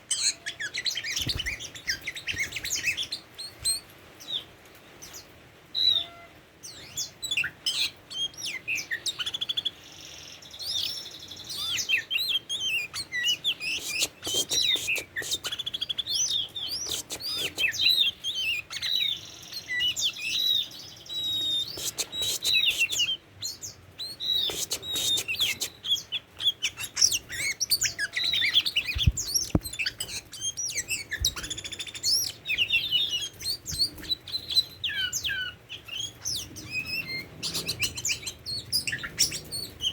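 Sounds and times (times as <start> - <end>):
bird singing whistles and chirps: 0.1 - 4.4, 6.7 - 39.9.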